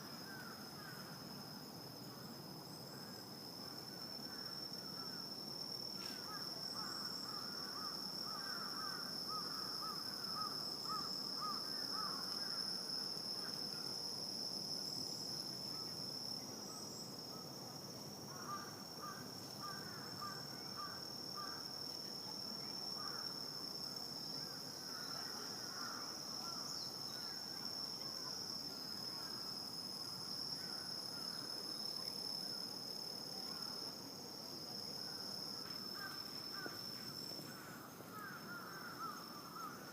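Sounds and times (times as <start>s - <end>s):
crickets trilling: 0.0s - 39.9s
insect chirping calls: 0.0s - 39.9s.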